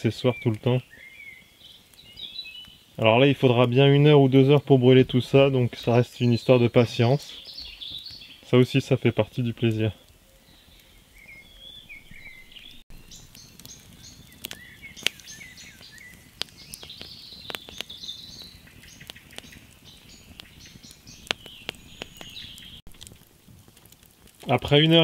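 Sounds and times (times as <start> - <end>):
birds singing: 0.0 - 22.8
fire popping: 0.0 - 25.0
wood fire crackling: 0.0 - 25.0.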